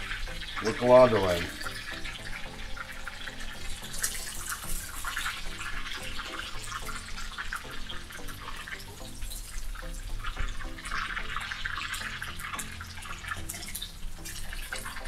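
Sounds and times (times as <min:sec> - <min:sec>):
oil sizzling with meat: 0:00.0 - 0:15.0.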